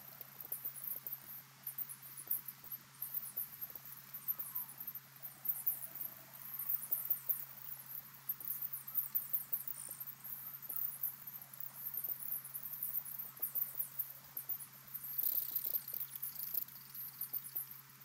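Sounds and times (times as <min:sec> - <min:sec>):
high-pitched insect chirps: 0:00.0 - 0:18.0.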